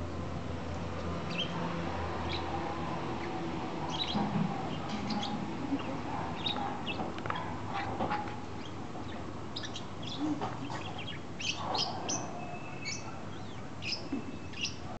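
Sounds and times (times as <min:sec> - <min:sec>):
small birds chirping: 0:01.0 - 0:15.0.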